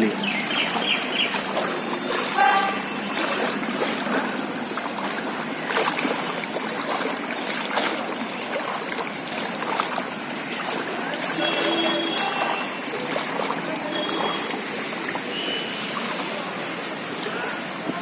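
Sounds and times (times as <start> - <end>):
floodwater sloshing and trickling: 0.0 - 18.0.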